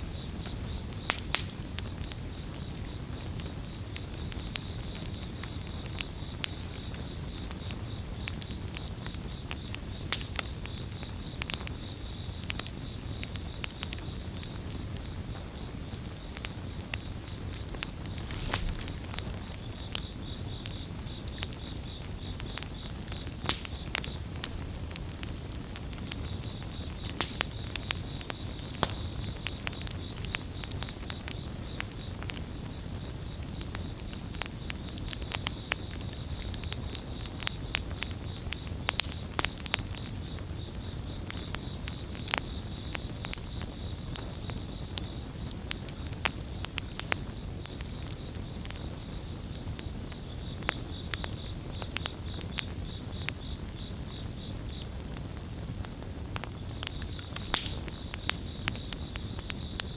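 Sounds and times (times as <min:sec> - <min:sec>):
campfire crackling and popping: 0:00.0 - 0:59.9
crickets chirping: 0:00.0 - 0:59.9
low rumble of burning wood: 0:00.0 - 0:59.9.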